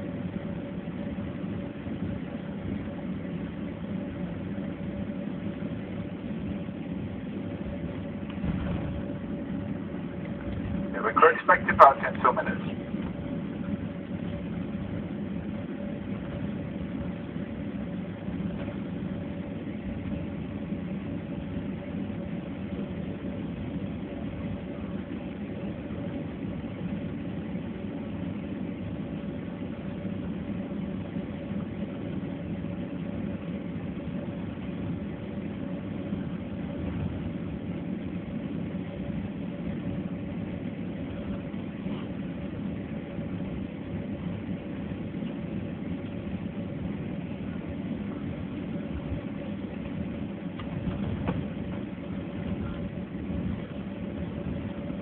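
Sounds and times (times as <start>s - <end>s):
jet cabin engine hum: 0.0s - 55.0s.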